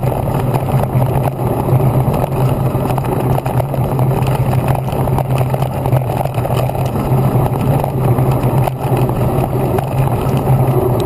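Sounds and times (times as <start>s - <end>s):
tyres rumbling over dirt: 0.0s - 11.0s
wind rushing over camera: 0.0s - 11.0s.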